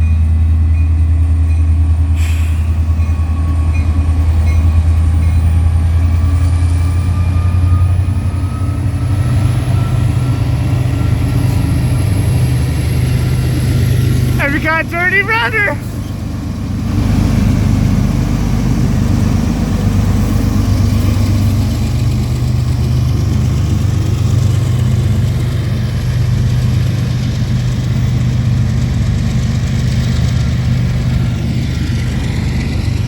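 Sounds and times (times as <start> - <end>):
diesel locomotive engine drone: 0.0 - 33.0.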